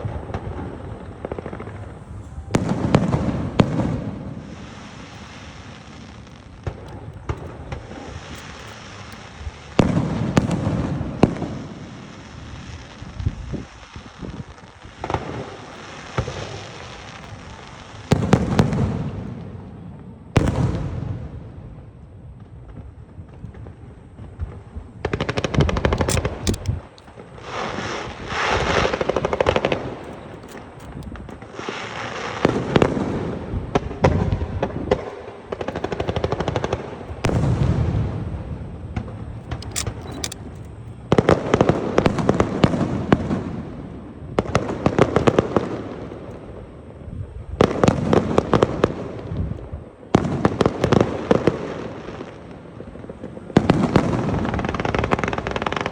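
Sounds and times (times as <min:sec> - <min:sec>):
fireworks booming: 0:00.0 - 0:55.9
fireworks crackling: 0:00.0 - 0:55.9.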